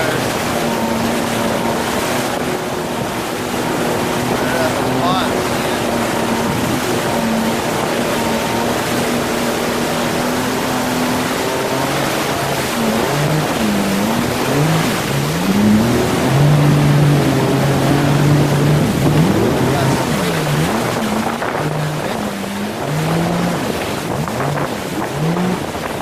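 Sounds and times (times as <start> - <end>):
jet ski engine running: 0.0 - 26.0
spray rushing off hull: 0.0 - 26.0.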